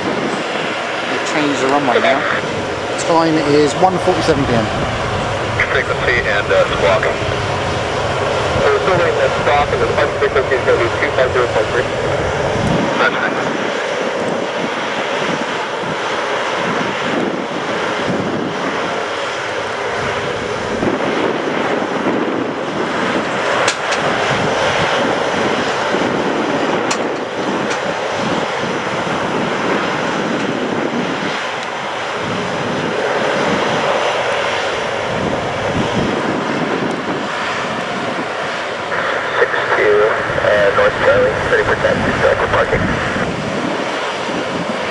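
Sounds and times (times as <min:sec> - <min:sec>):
aircraft engines running: 0:00.0 - 0:44.9.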